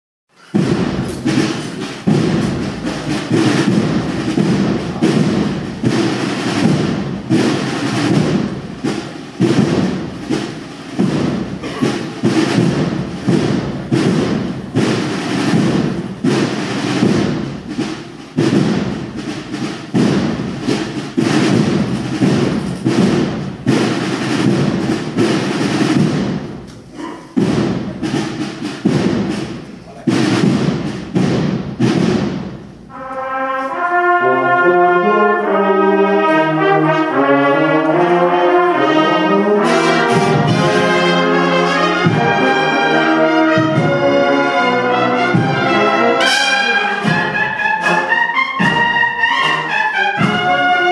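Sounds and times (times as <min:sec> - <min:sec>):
cornet and drum band march: 0:00.3 - 0:50.9
heavy drum strokes: 0:00.3 - 0:50.9.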